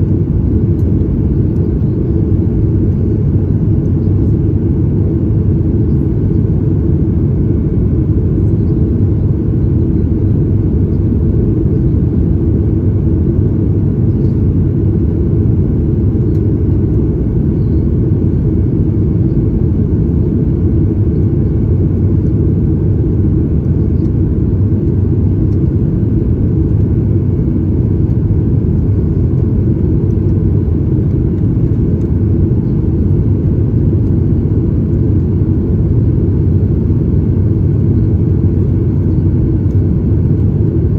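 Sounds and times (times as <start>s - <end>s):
airplane engines rumbling in cabin: 0.0s - 40.9s.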